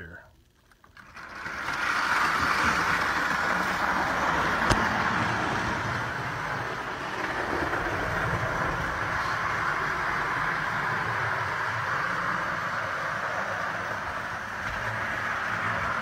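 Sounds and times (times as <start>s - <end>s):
clockwork toy train whirring: 0.7s - 16.0s.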